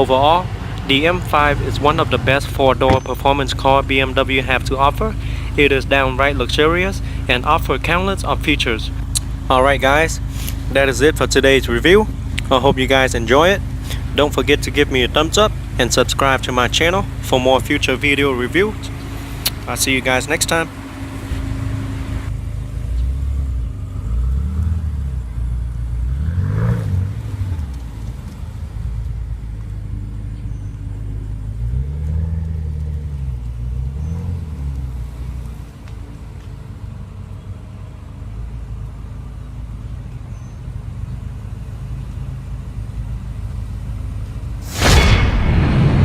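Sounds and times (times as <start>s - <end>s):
car engine revving and idling: 0.0s - 44.7s.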